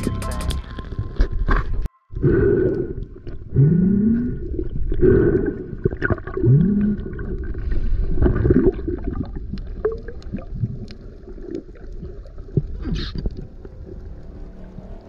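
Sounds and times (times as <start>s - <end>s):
water rushing underwater: 2.1s - 15.0s.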